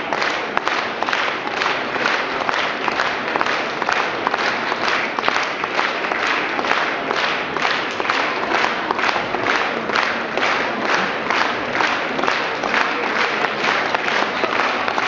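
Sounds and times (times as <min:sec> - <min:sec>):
audience clapping in unison: 0:00.0 - 0:15.0.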